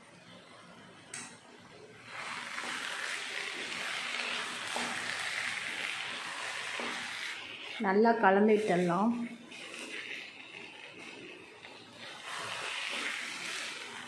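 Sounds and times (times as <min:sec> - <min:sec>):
food sizzling in a pan: 0:02.0 - 0:14.0.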